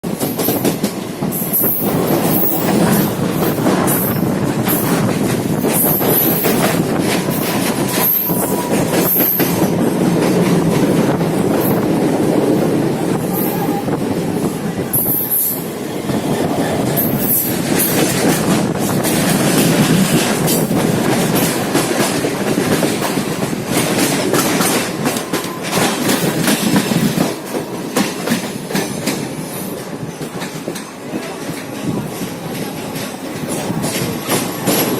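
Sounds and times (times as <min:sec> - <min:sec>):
train wheels rumbling on track: 0:00.0 - 0:34.9
rail-joint clicks: 0:00.1 - 0:34.9.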